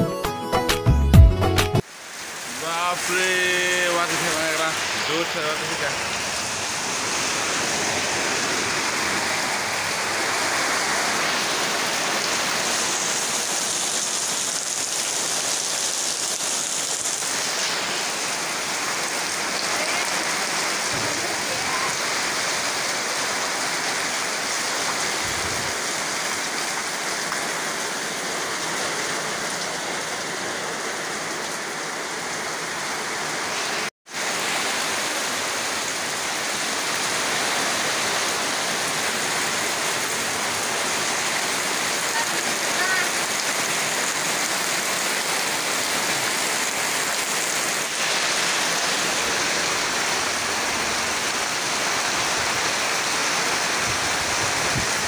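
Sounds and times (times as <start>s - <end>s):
heavy rain: 1.7s - 55.0s.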